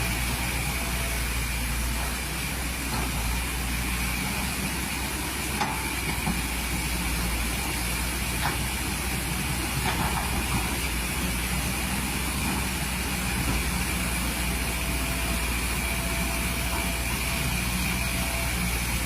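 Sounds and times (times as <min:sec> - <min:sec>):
diesel engine running with hiss: 0:00.0 - 0:19.0.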